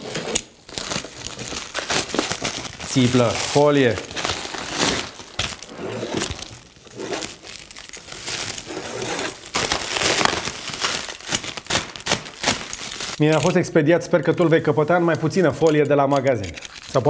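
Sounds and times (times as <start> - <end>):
plastic film crinkling and tearing: 0.0 - 17.0.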